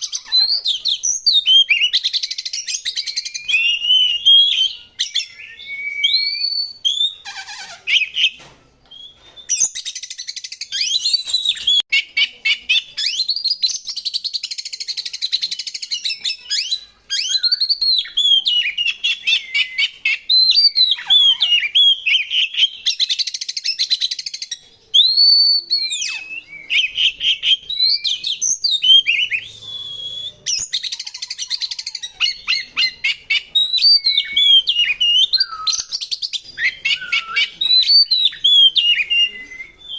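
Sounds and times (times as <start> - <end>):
bird whistled song: 0.0 - 39.9.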